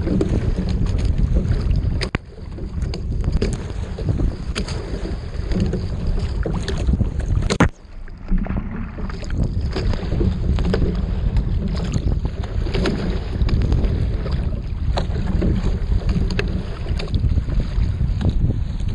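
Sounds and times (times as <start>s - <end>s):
waves splashing against boat: 0.0s - 18.9s
wind buffeting microphone: 0.0s - 18.9s.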